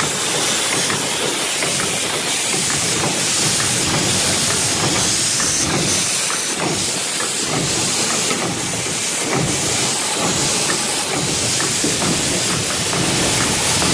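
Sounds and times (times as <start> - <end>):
welding machine hiss: 0.0 - 13.9.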